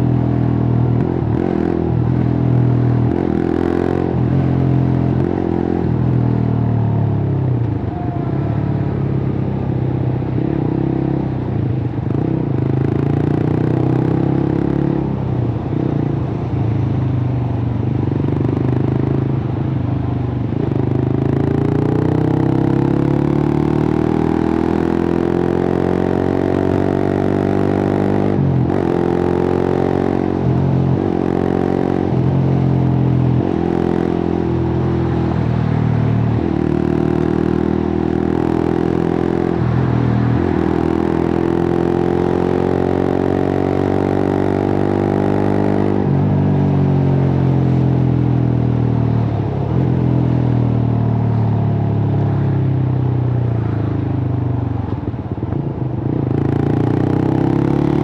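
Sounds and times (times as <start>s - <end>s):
motorcycle engine revving: 0.0s - 7.4s, 8.8s - 58.0s.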